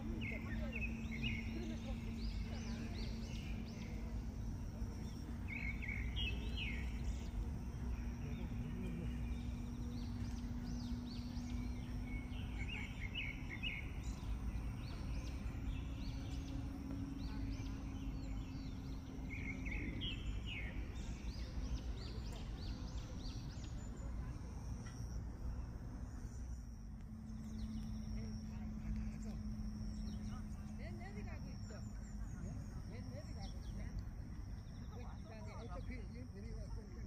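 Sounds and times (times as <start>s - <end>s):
birds chirping: 0.0s - 37.0s
steady low rumble: 0.0s - 37.0s.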